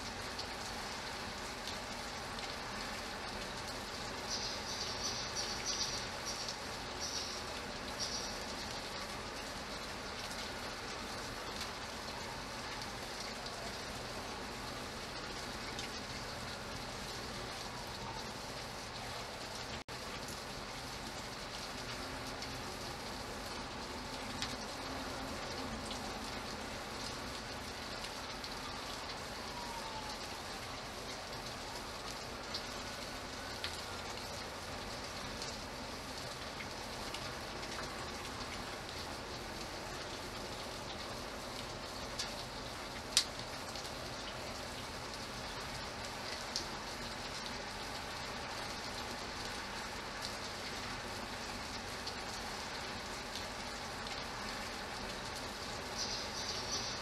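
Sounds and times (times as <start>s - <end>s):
rain hissing: 0.0s - 57.0s
raindrop splashes: 0.0s - 57.0s.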